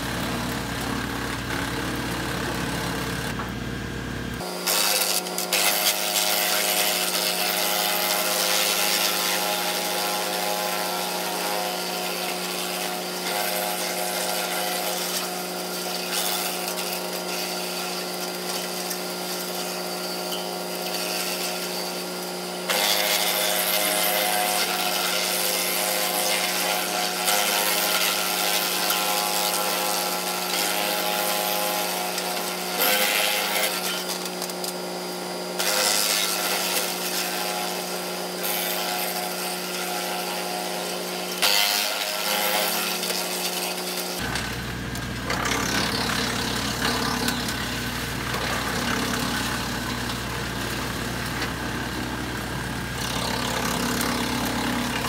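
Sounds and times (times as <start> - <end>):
wood chipper chipping branches: 0.0 - 55.0.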